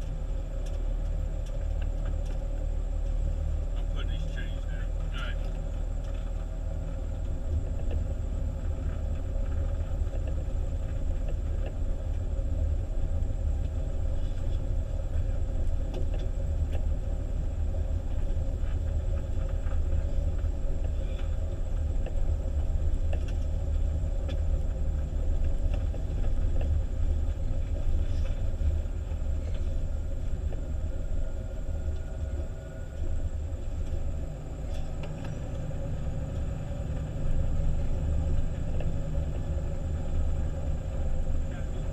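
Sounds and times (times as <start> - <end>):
fire engine rumbling on snowy road: 0.0 - 41.9.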